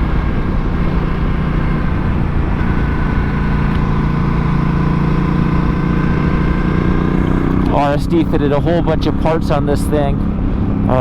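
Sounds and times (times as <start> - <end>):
motorcycle engine cruising: 0.0 - 11.0
road rumble: 0.0 - 11.0
wind: 0.0 - 11.0.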